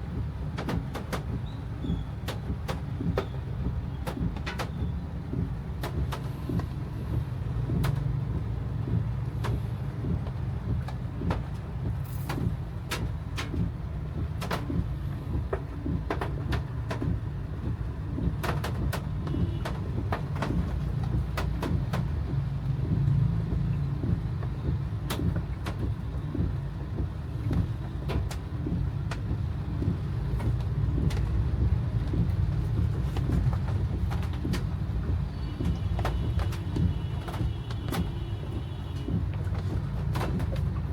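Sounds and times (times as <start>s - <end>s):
car engine and road rumble: 0.0s - 40.9s
heavy rain hitting windshield: 0.0s - 40.9s.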